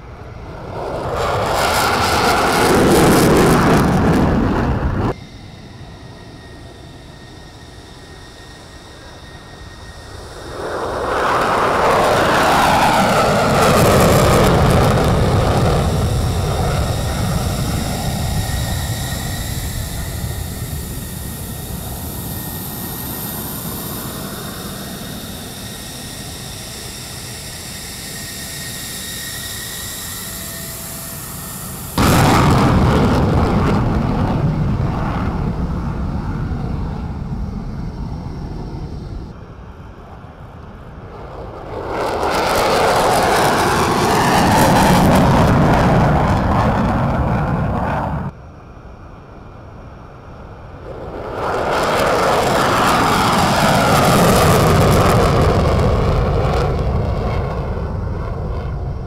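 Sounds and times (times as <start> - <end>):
jet engine whining: 0.0 - 59.0.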